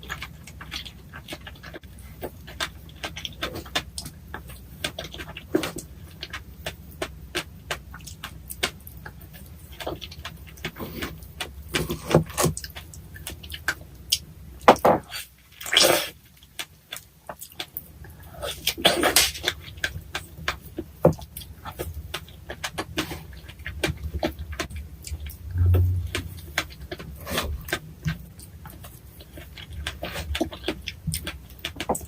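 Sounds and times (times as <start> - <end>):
chewing and mouth clicks: 0.0 - 14.3, 15.2 - 32.0.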